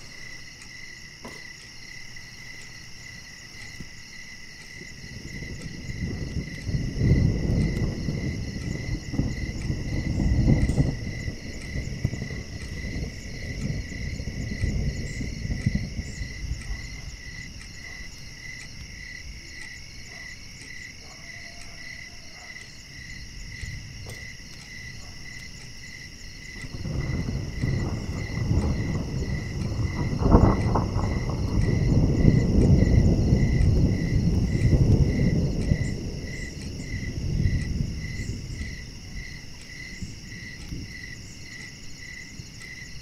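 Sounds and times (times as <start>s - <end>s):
crickets chirping: 0.0s - 43.0s.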